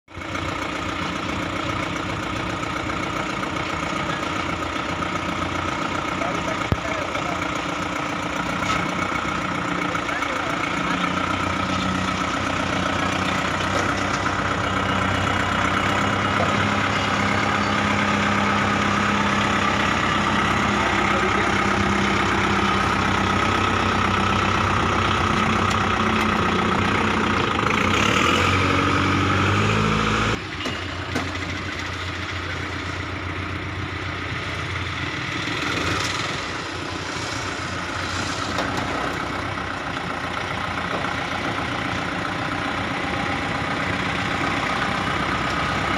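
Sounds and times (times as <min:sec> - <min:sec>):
tractor diesel engine running: 0:00.0 - 0:45.9
diesel engine idling: 0:00.1 - 0:45.9.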